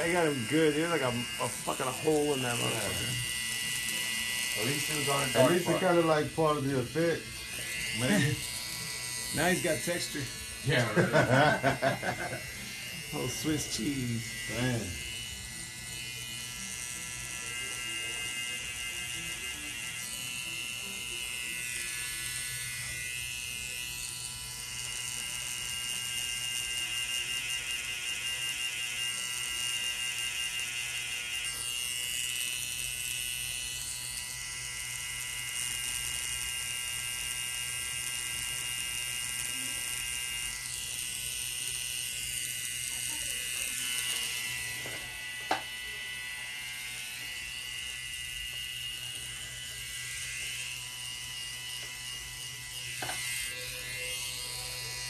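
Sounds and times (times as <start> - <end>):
tattoo machine buzzing: 0.0 - 55.0.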